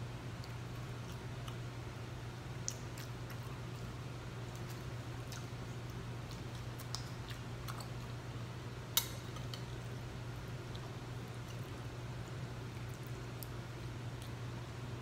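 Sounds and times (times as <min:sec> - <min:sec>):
steady low hum: 0:00.0 - 0:15.0
person chewing: 0:00.4 - 0:01.8, 0:02.6 - 0:08.2, 0:09.4 - 0:14.6.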